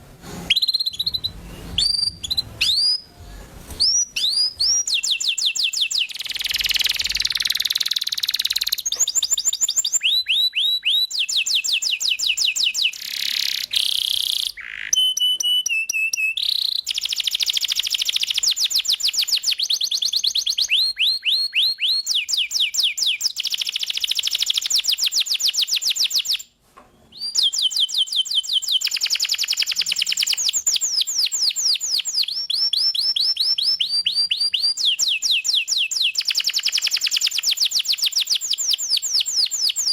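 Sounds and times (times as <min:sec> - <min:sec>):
canary singing in trills: 0:00.4 - 0:26.5, 0:27.1 - 0:39.9.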